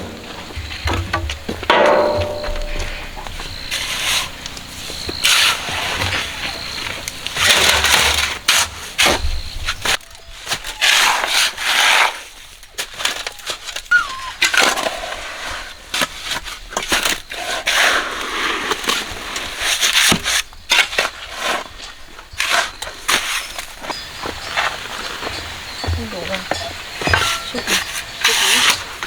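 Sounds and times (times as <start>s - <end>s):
tools scraping gravel: 0.0s - 29.0s.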